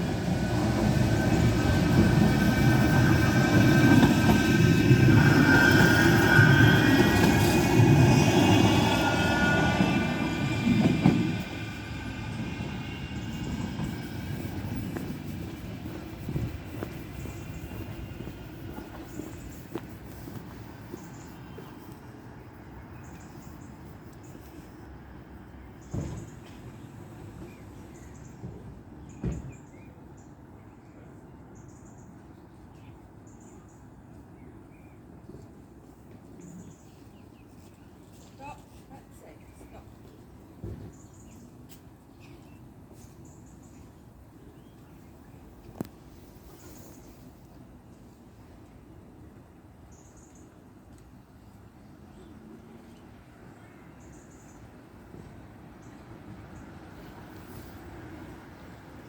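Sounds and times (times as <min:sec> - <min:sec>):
train passing with whine: 0:00.0 - 0:42.0, 0:42.8 - 0:59.0.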